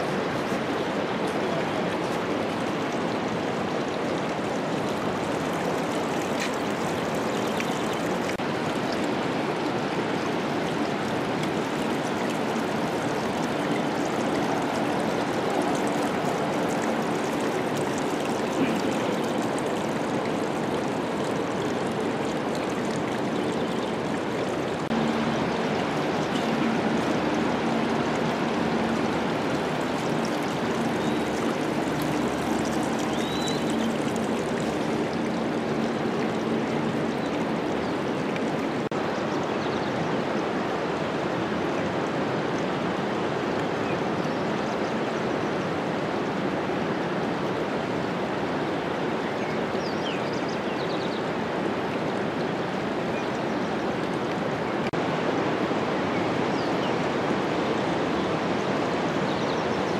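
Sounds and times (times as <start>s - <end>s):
fast-running water: 0.0s - 59.9s.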